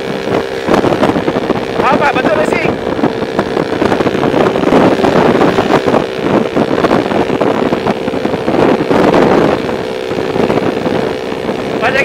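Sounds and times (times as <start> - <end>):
motorcycle engine running: 0.0 - 12.0
wind buffeting the microphone: 0.0 - 12.0.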